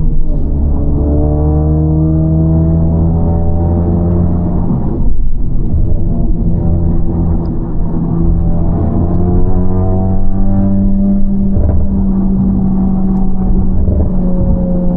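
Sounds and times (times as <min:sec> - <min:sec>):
car engine accelerating: 0:00.0 - 0:14.9.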